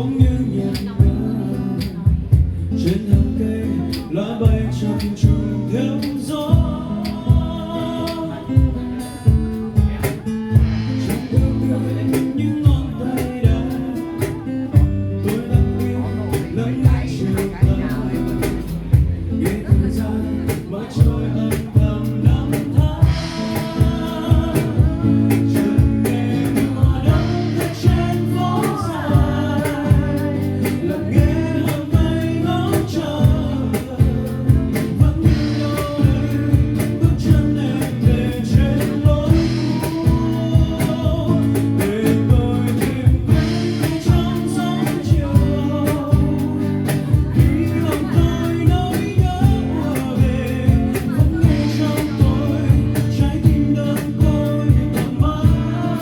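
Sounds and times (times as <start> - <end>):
person singing: 0.0 - 56.0
strummed guitar: 0.0 - 56.0.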